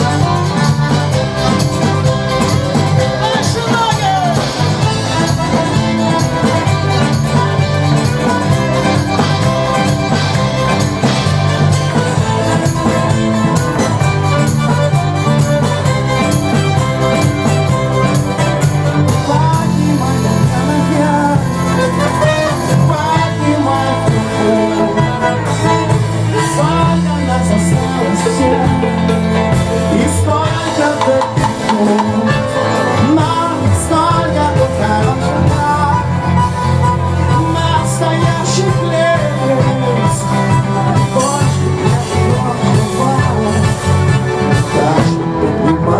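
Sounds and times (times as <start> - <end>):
band music with singing: 0.0 - 45.9.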